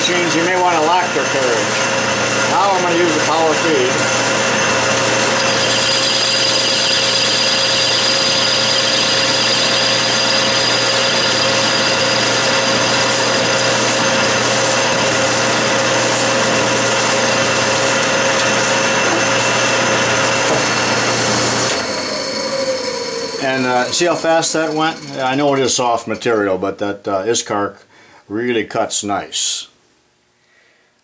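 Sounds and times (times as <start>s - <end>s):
metal lathe whine: 0.0s - 26.2s
cutting tool parting metal: 0.0s - 26.3s.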